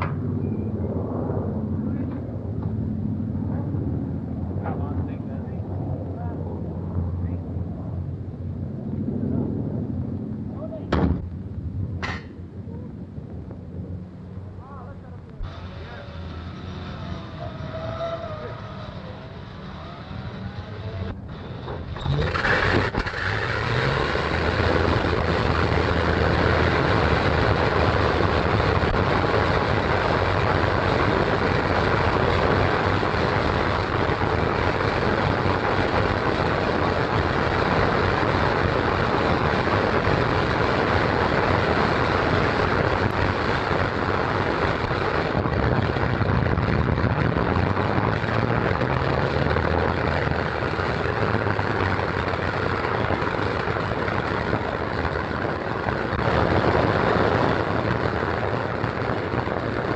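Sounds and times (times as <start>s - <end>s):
radial aircraft engines running: 0.0s - 59.9s.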